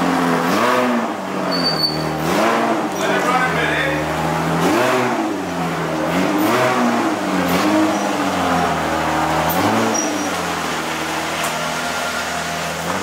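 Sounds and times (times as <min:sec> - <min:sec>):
car engine revving lightly: 0:00.0 - 0:13.0.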